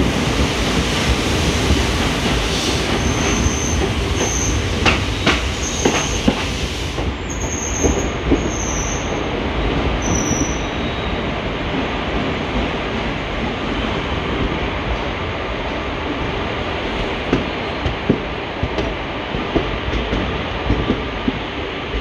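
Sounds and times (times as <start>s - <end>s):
train coach rumbling: 0.0s - 22.0s.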